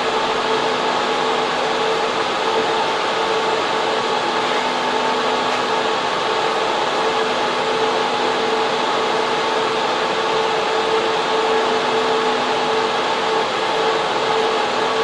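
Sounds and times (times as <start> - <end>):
constant whine: 0.0 - 15.0
cooling fans whooshing hum: 0.0 - 15.0.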